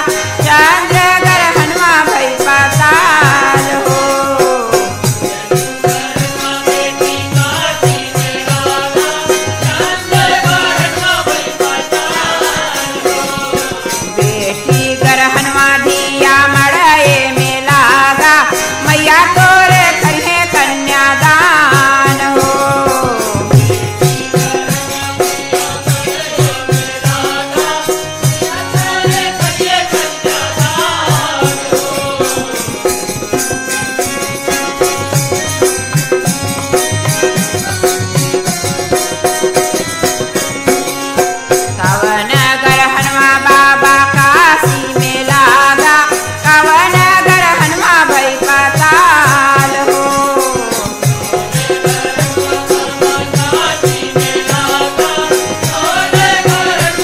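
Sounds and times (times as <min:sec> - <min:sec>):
person singing folk song: 0:00.0 - 0:37.9, 0:40.7 - 0:57.0
hand percussion beat: 0:00.0 - 0:57.0.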